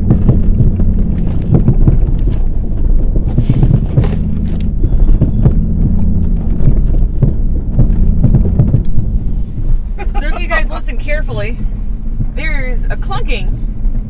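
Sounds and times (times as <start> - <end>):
car engine running: 0.0 - 14.0
vehicle clunks and knocks: 0.0 - 14.0.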